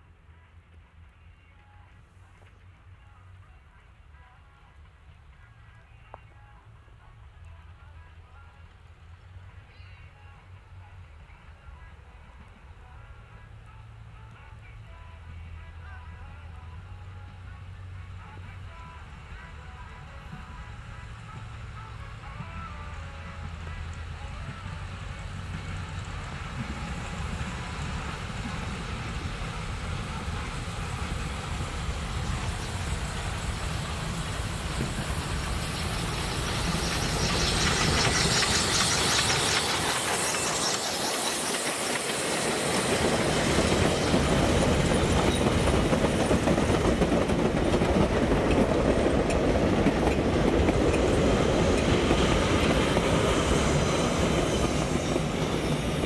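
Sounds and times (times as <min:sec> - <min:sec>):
steam locomotive passing: 0:06.5 - 0:56.0.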